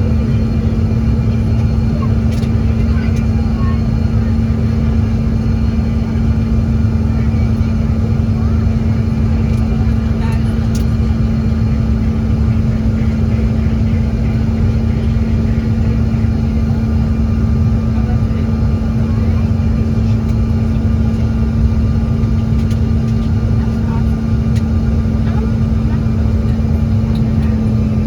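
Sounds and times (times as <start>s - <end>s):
airliner cabin engine rumble: 0.0s - 28.0s
constant low hum: 0.0s - 28.0s.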